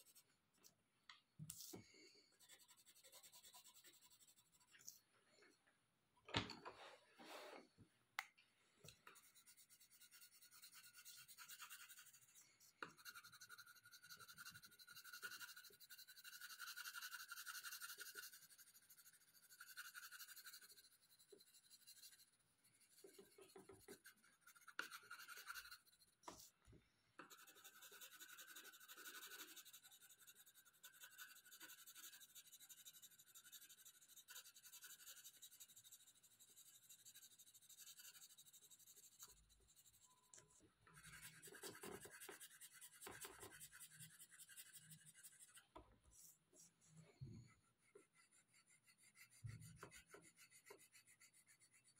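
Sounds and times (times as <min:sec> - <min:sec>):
pencil scratching on paper: 0:00.0 - 0:00.4, 0:01.5 - 0:05.0, 0:09.0 - 0:26.6, 0:27.2 - 0:51.9.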